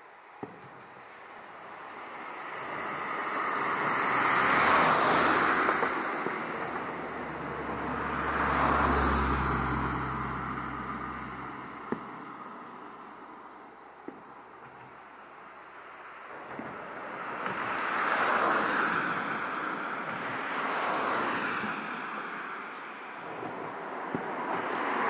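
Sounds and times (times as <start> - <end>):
vehicles passing: 0.2 - 25.0.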